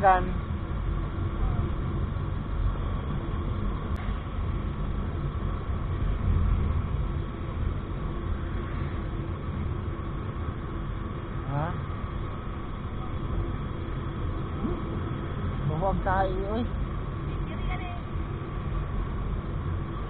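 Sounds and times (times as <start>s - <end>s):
faint constant whine: 0.0s - 20.0s
wind and road noise rumble: 0.0s - 20.0s.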